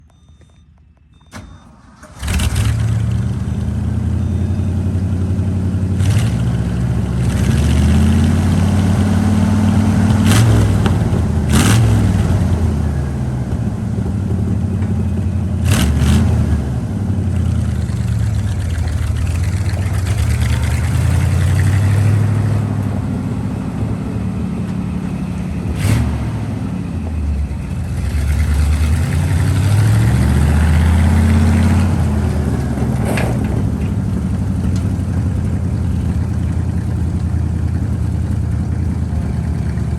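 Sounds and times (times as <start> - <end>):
truck engine starting and revving: 0.1 - 39.9.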